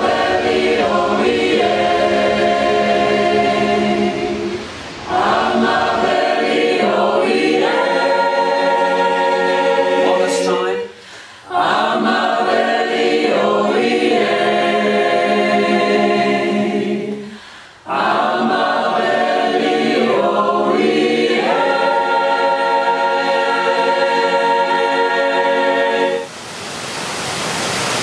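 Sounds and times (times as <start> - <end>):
group singing chant in harmony: 0.0 - 26.3.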